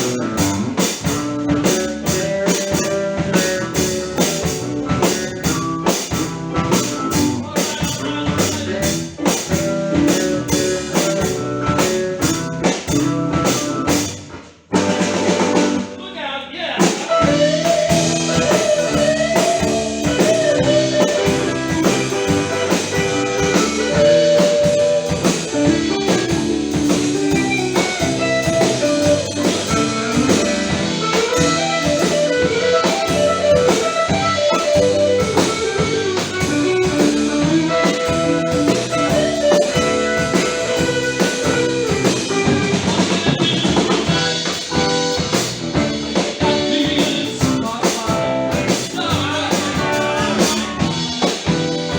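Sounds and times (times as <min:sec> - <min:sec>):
electric guitar melody: 0:00.0 - 0:16.0, 0:16.9 - 0:51.9
bass guitar: 0:00.0 - 0:51.9
drum kit: 0:00.0 - 0:51.9.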